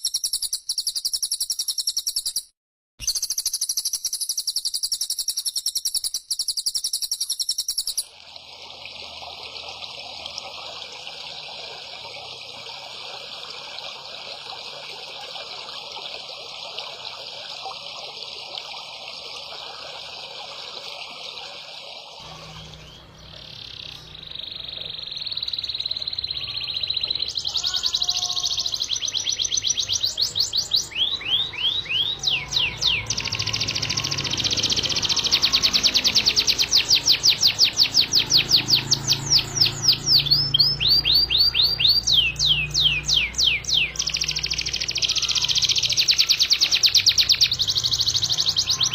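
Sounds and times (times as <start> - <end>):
songbirds singing: 0.0 - 8.1, 9.0 - 48.9.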